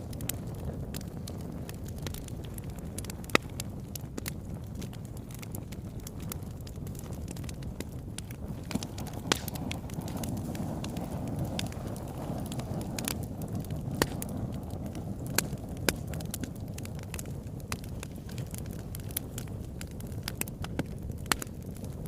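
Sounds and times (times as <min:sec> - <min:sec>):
fire crackling and popping: 0:00.0 - 0:22.0
fire flames rumbling: 0:00.0 - 0:22.0.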